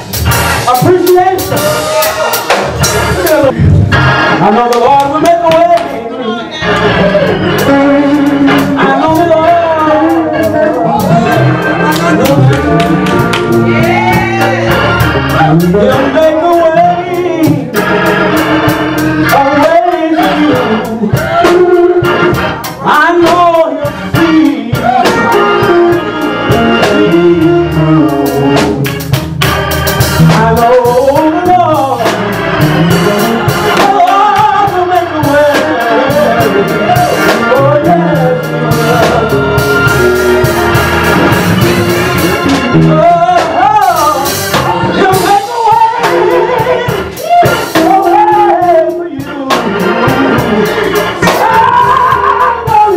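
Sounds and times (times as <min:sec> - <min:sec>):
drum kit: 0:00.0 - 0:52.9
organ chords: 0:00.0 - 0:52.9
man singing into microphone: 0:00.7 - 0:02.5, 0:04.4 - 0:18.2, 0:19.2 - 0:28.8, 0:30.2 - 0:40.8, 0:41.6 - 0:52.9.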